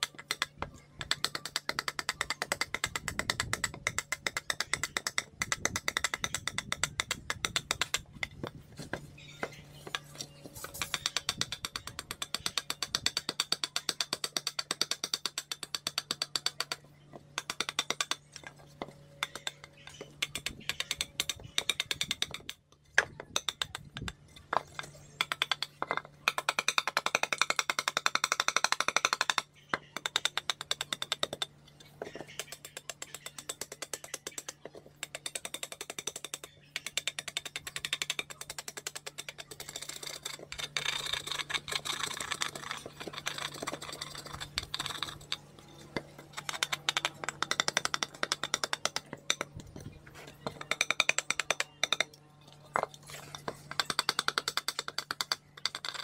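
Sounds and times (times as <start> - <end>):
blade chopping and scraping wood: 0.0 - 56.0.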